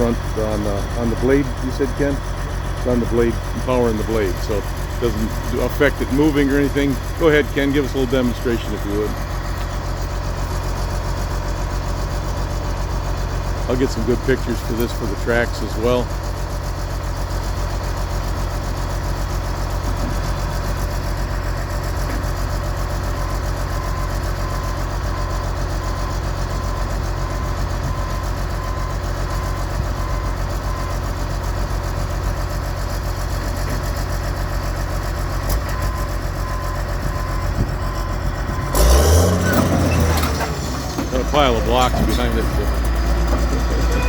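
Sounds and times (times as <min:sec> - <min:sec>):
diesel engine running low: 0:00.0 - 0:44.0.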